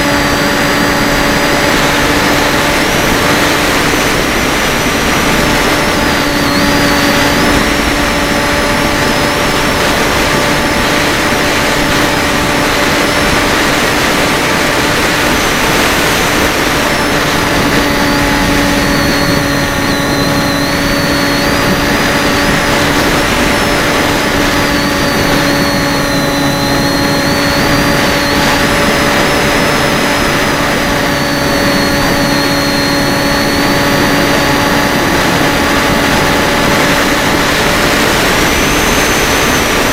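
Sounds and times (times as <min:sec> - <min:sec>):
drone motors buzzing and whining: 0:00.0 - 0:39.9.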